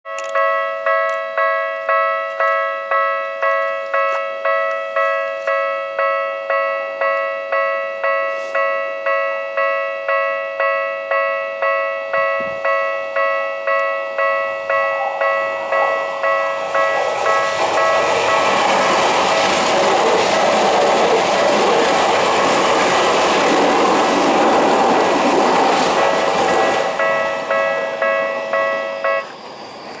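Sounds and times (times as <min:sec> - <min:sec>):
level crossing warning bell: 0:00.1 - 0:29.8
electric train running: 0:05.4 - 0:30.0.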